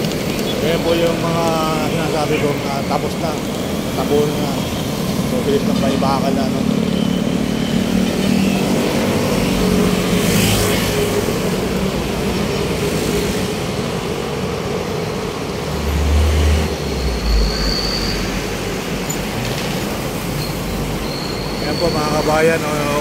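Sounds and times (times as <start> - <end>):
passing traffic: 0.0 - 23.0.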